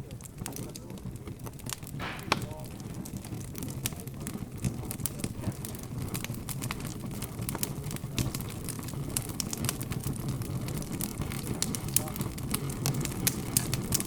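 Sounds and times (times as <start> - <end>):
murmur of background chatter: 0.0 - 14.0
wood fire crackling and popping: 0.0 - 14.0.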